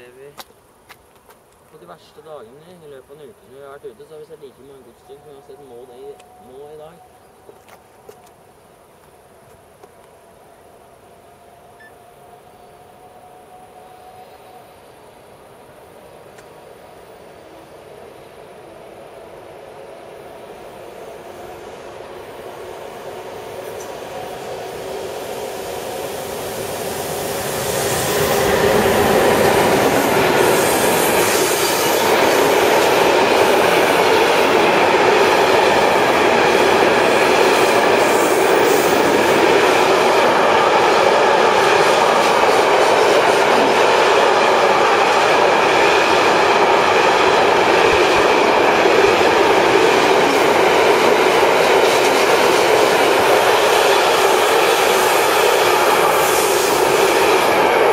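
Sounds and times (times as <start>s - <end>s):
freight train rumbling past: 1.8s - 57.9s.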